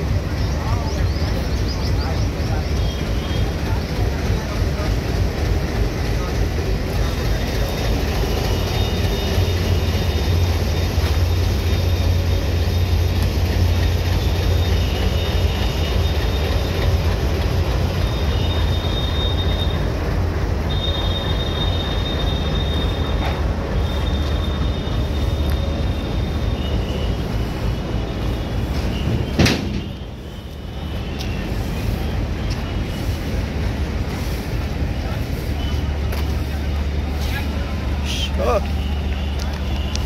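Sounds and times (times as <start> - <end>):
train coaches rumbling: 0.0 - 40.0
high wheel squeal: 0.3 - 4.3, 6.0 - 33.5, 36.6 - 40.0.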